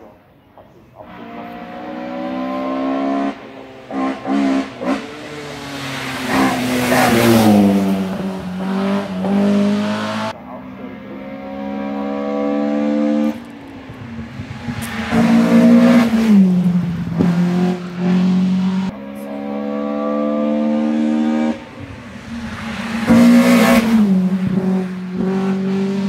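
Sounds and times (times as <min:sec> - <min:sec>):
race car engines at high revs: 0:01.0 - 0:26.0.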